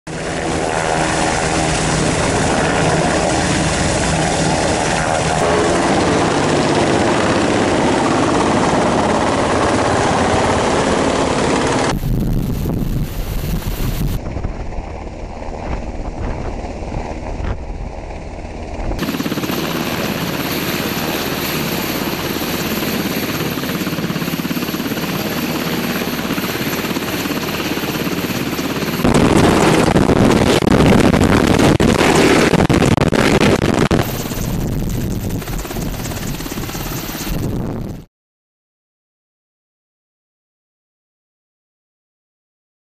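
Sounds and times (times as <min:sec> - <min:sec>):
helicopter rotor and engines: 0:00.1 - 0:38.1.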